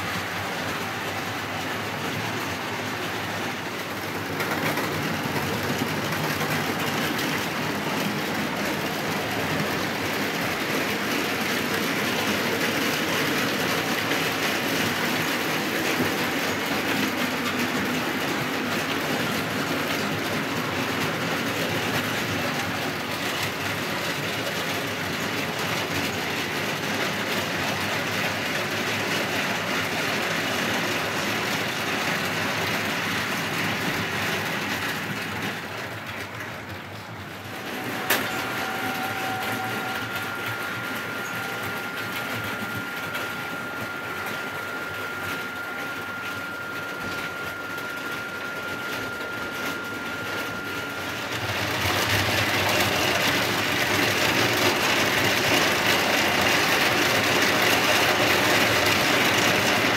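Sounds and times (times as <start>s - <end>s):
model trains rumbling on track: 0.0s - 59.9s
steady high whine: 0.0s - 59.9s.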